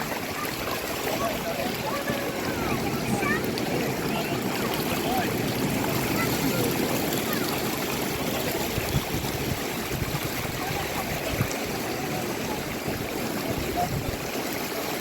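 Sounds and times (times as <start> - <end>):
water trickling and sloshing: 0.0 - 15.0.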